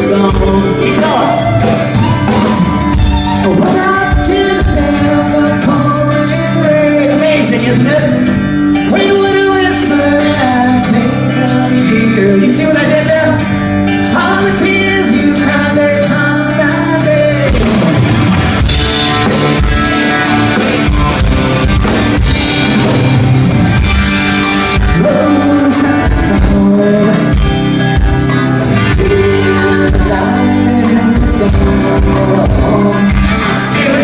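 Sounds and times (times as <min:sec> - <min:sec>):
person singing: 0:00.0 - 0:19.4, 0:24.4 - 0:34.0
rock band playing: 0:00.0 - 0:34.0.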